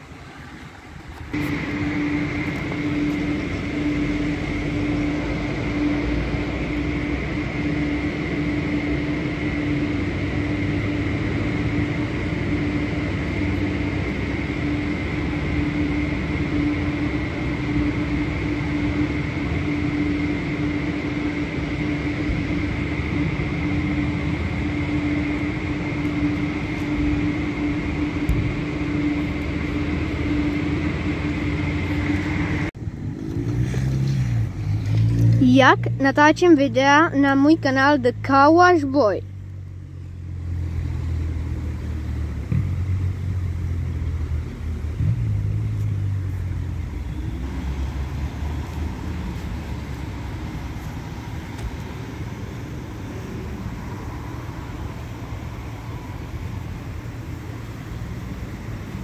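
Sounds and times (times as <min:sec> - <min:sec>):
air dryer blowers rushing: 0:00.0 - 0:36.0, 0:40.4 - 0:59.0.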